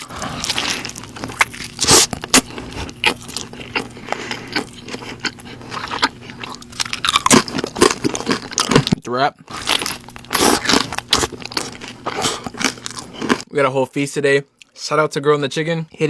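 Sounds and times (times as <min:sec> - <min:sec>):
person biting and chewing food: 0:00.0 - 0:13.5.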